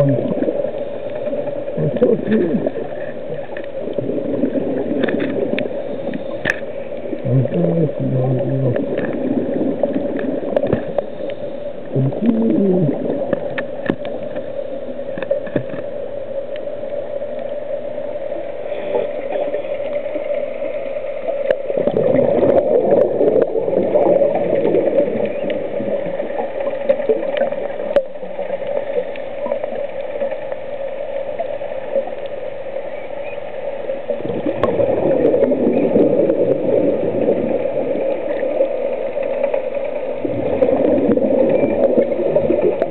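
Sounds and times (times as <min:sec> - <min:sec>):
gurgling regulator bubbles: 0:00.0 - 0:42.9
steady underwater hum: 0:00.0 - 0:42.9.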